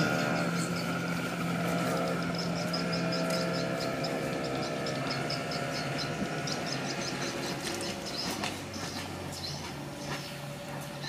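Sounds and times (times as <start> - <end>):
outboard engine idling: 0.0 - 11.0.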